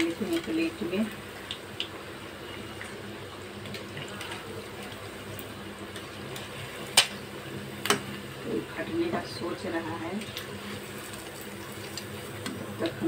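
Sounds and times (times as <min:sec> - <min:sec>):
eggs sizzling in hot oil: 0:00.0 - 0:13.0.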